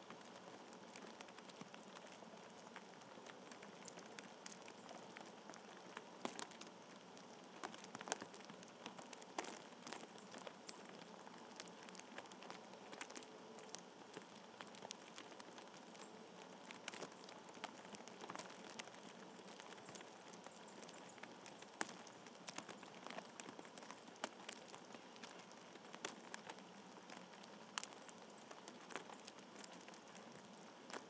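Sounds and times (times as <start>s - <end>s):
faint small ticks and taps: 0.0s - 31.0s.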